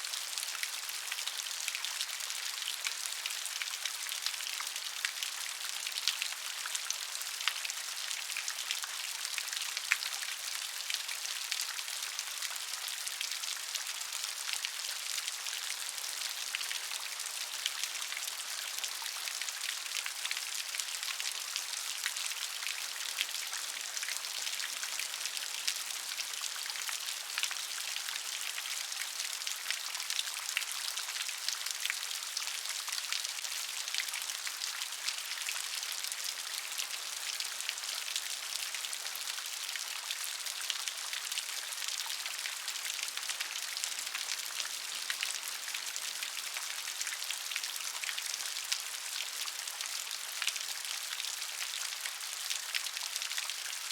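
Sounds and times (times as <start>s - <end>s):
light rain falling: 0.0s - 53.9s.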